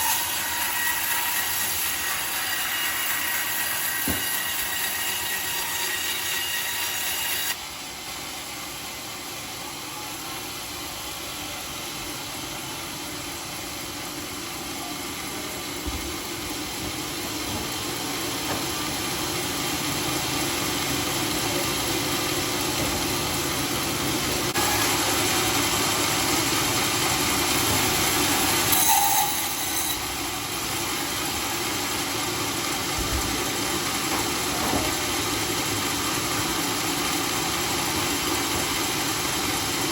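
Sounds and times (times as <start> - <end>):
sawmill machine sawing wood: 0.0 - 7.6, 10.2 - 39.9.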